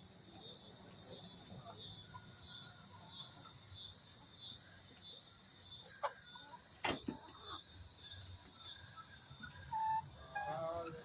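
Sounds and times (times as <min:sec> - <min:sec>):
insect chorus droning: 0:00.0 - 0:11.0.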